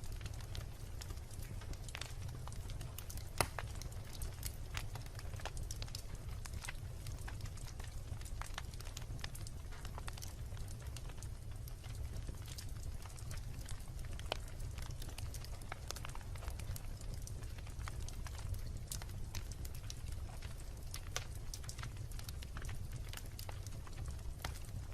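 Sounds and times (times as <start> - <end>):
campfire crackling and popping: 0.0 - 24.9
low rumble of flames: 0.0 - 24.9.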